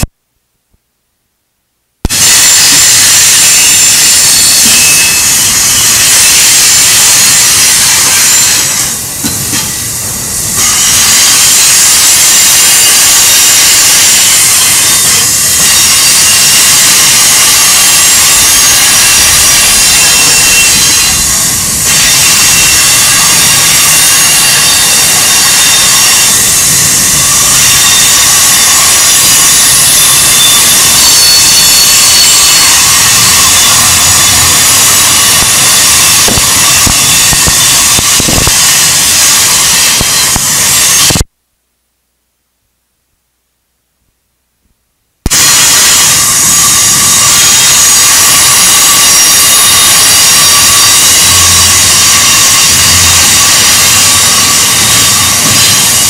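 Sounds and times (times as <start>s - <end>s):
steel wheels rushing on rail: 2.0s - 41.3s, 45.2s - 56.0s
high-pitched wheel squealing: 2.1s - 41.2s, 45.3s - 56.0s.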